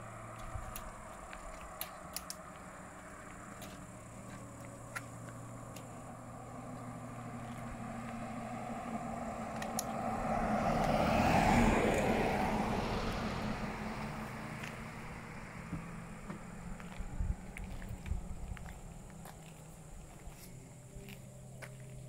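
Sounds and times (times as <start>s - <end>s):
pickup truck driving past: 0.0s - 22.0s.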